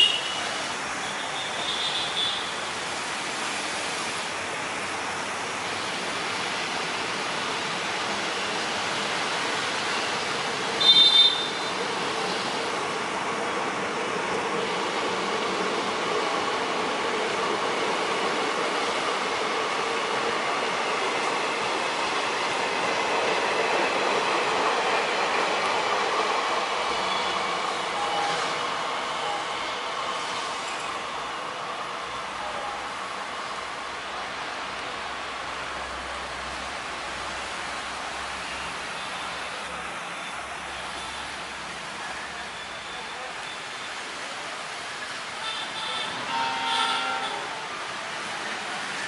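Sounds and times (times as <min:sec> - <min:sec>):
train coaches rolling on rails: 0:00.0 - 0:49.0.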